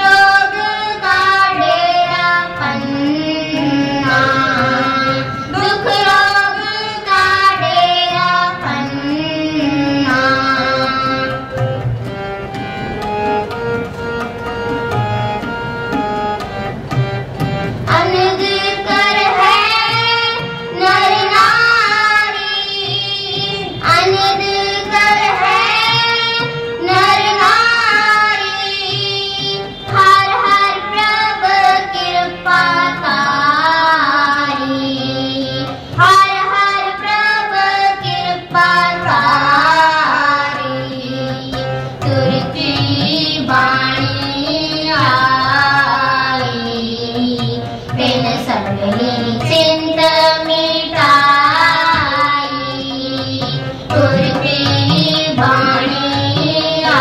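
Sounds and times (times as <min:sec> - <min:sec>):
girl and woman singing: 0:00.0 - 0:11.4, 0:17.9 - 0:57.0
harmonium: 0:00.0 - 0:57.0
tabla: 0:00.0 - 0:57.0.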